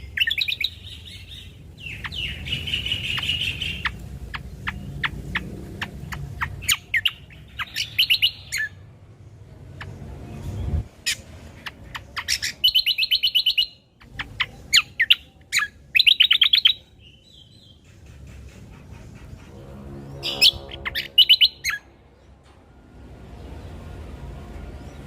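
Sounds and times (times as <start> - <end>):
songbird chirping and trilling: 0.0 - 25.0.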